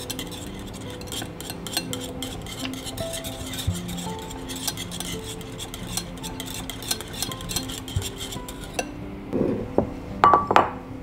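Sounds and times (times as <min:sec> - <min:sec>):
whisk clicking against glass bowl: 0:00.0 - 0:08.9.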